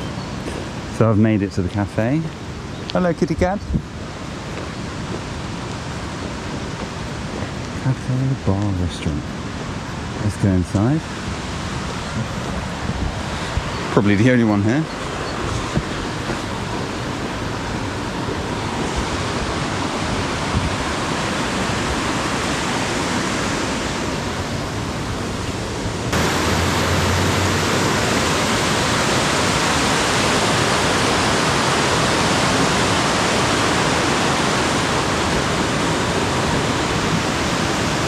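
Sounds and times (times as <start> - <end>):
loud steady rushing noise: 3.0 - 38.0.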